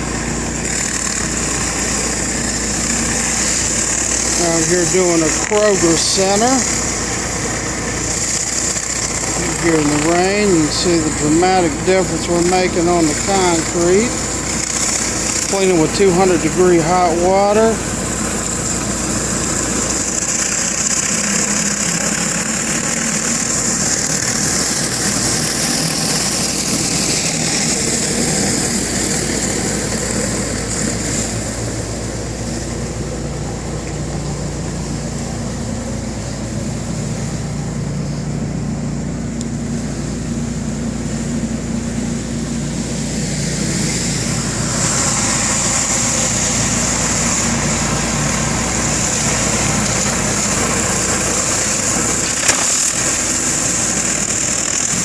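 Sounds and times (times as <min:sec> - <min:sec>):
high-pressure spray hissing on concrete: 0:00.0 - 0:38.3, 0:39.3 - 0:55.0
pressure washer engine hum: 0:00.0 - 0:55.0.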